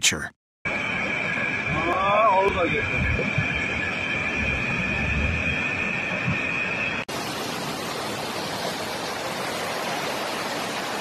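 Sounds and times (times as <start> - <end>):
floodwater rushing: 0.7 - 11.0.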